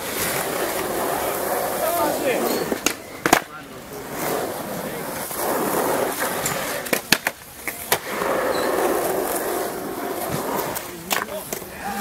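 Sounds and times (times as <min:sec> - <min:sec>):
skateboard clacks and knocks: 0:00.0 - 0:03.5, 0:05.1 - 0:11.9
wheels rolling on concrete: 0:00.0 - 0:12.0.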